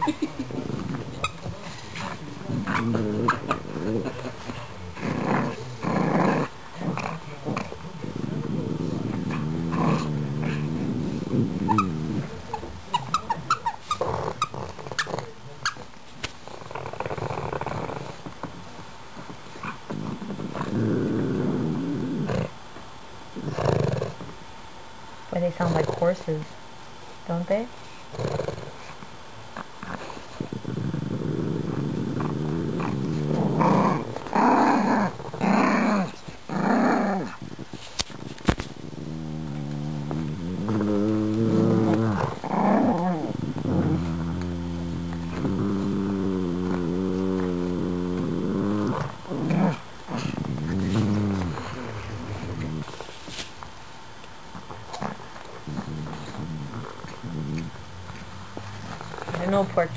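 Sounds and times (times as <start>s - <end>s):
dogs growling: 0.0s - 22.6s, 23.4s - 24.4s, 28.0s - 53.5s, 54.5s - 59.9s.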